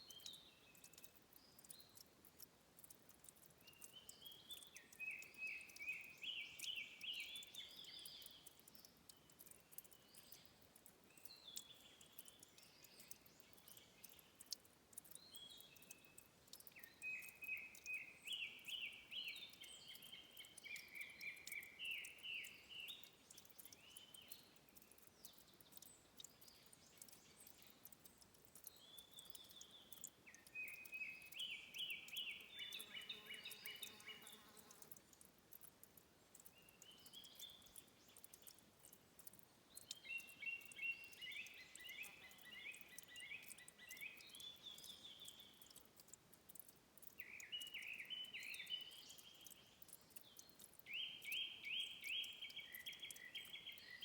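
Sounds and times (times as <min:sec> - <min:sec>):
bird chirping: 0:00.0 - 0:54.0
faint background hiss: 0:00.0 - 0:54.0.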